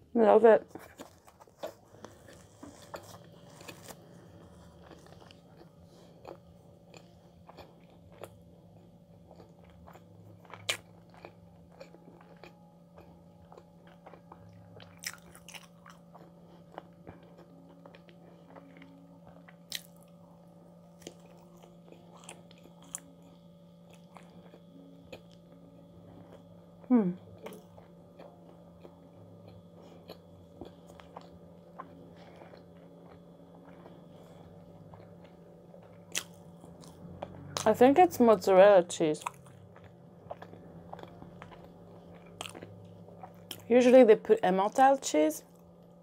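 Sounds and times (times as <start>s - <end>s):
person chewing quietly: 0.7s - 44.0s.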